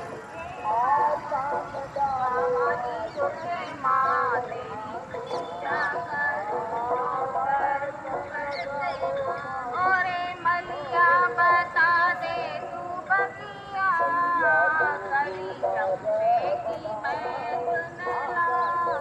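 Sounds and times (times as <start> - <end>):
music with warbling vocals: 0.0 - 19.0.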